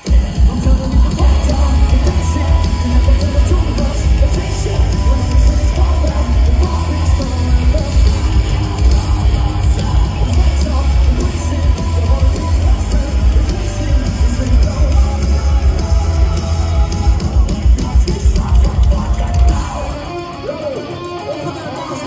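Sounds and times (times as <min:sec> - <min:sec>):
heavy rock band playing live: 0:00.0 - 0:22.0.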